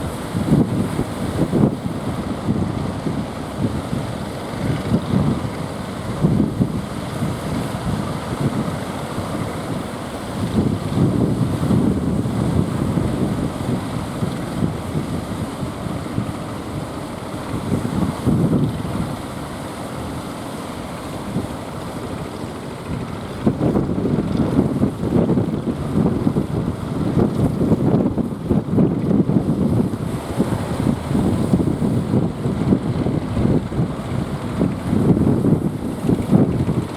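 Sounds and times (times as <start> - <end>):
wind buffeting microphone: 0.0 - 20.3, 21.2 - 36.9
surf rushing: 0.0 - 36.9.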